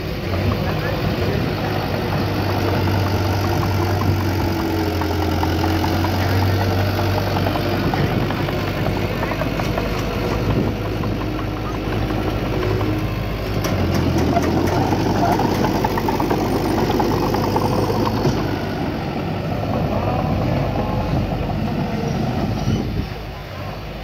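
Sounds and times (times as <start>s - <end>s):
heavy machinery diesel engine: 0.0s - 24.0s.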